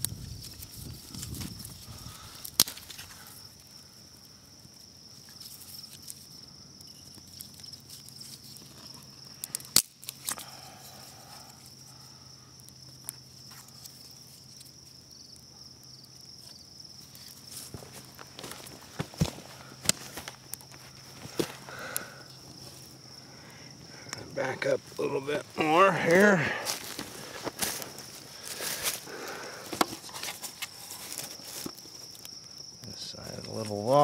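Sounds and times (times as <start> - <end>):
sharp pops of burning wood: 0.0 - 33.9
campfire crackling: 0.0 - 34.0.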